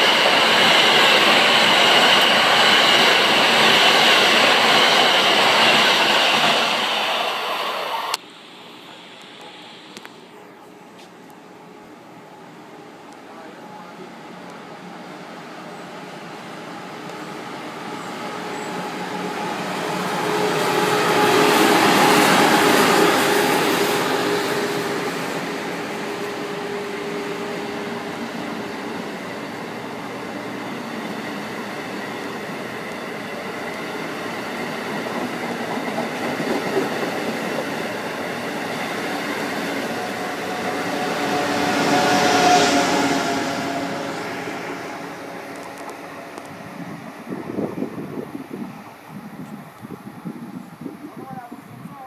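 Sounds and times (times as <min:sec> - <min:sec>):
train cars rumbling: 0:00.0 - 0:08.2, 0:10.4 - 0:52.0
electric train passing: 0:00.0 - 0:52.0
train whine: 0:00.0 - 0:52.0.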